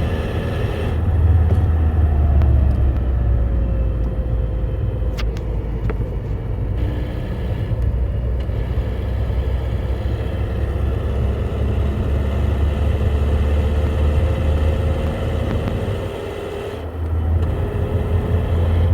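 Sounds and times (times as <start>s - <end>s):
car engine rumble and whine: 0.0s - 18.9s.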